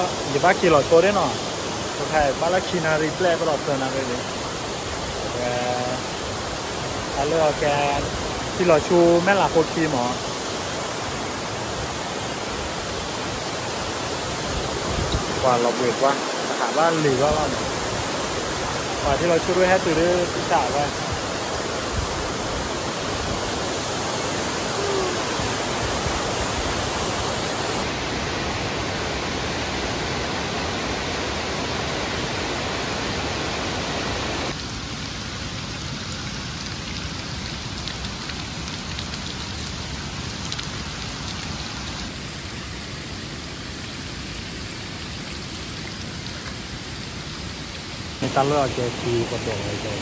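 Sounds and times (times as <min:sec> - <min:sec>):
waterfall rushing: 0:00.0 - 0:34.6, 0:42.1 - 0:50.0.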